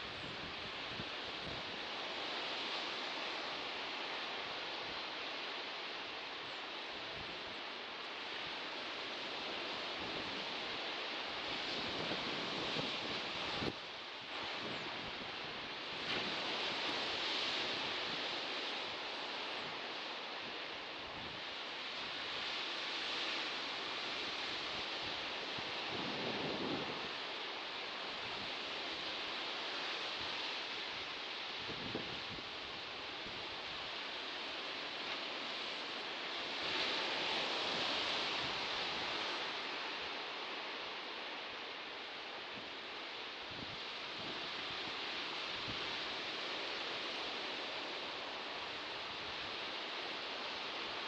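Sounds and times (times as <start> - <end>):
ocean waves washing: 0.0 - 51.0.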